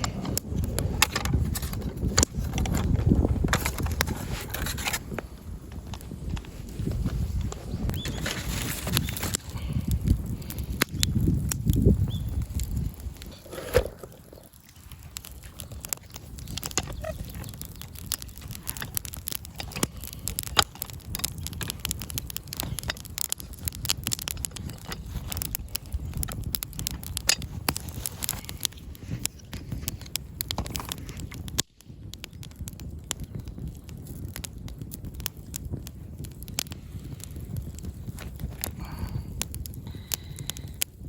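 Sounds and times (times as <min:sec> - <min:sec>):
campfire crackling and popping: 0:00.0 - 0:41.0
low rush of flame: 0:00.0 - 0:41.0.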